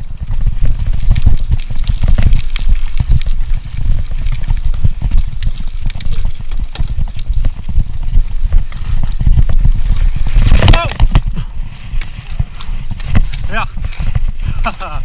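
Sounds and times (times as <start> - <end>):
bike clicks and rattles: 0.0 - 15.0
mountain bike rumbling on dirt trail: 0.0 - 15.0.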